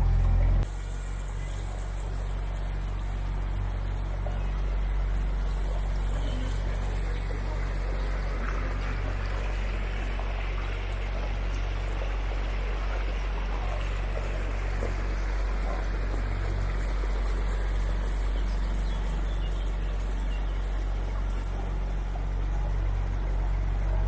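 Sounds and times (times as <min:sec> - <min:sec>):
boat motor hum: 0:00.0 - 0:24.0
water splashing along hull: 0:00.0 - 0:24.0.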